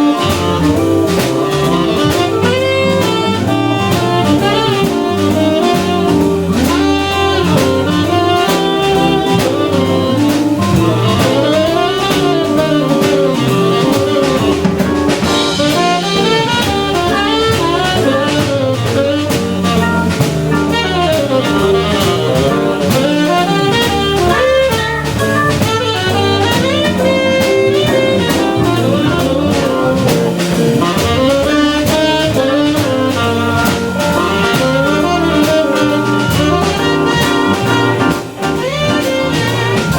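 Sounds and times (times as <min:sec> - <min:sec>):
drum kit: 0:00.0 - 0:39.9
tenor saxophone lead: 0:00.0 - 0:39.9.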